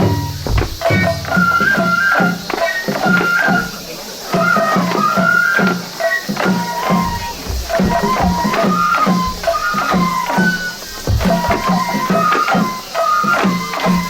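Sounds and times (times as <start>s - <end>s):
bamboo flute melody: 0.0s - 14.0s
taiko drum beats: 0.0s - 14.0s.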